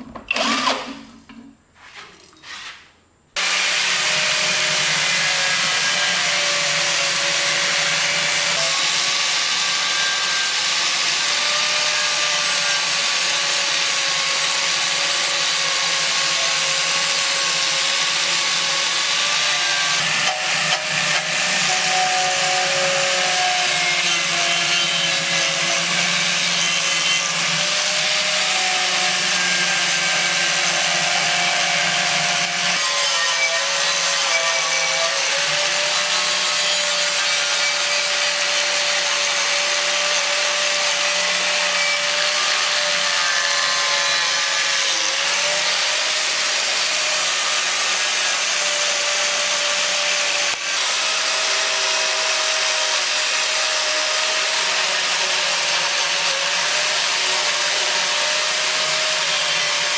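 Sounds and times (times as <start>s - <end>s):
electric power tool grinding: 0.2s - 1.3s, 3.4s - 59.9s.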